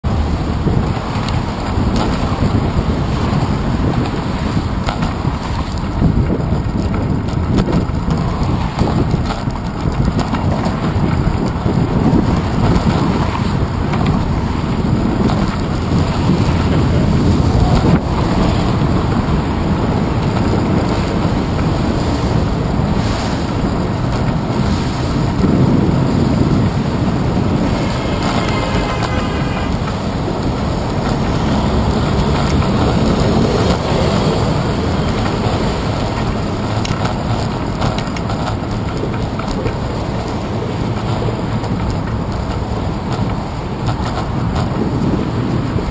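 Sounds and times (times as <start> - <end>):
car traffic passing: 0.0 - 45.9
wind rumble on microphone: 0.0 - 45.9.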